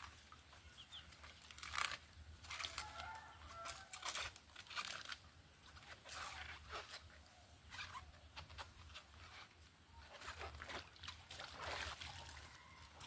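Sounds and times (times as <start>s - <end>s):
cabbage leaves tearing: 1.1s - 13.0s.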